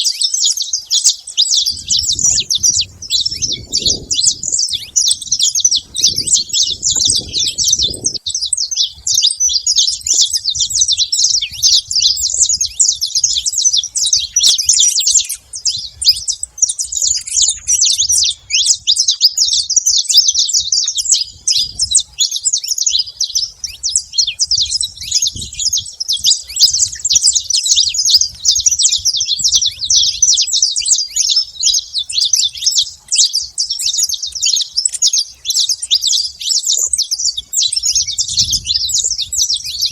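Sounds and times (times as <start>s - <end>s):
finch chirping and singing: 0.0s - 39.9s.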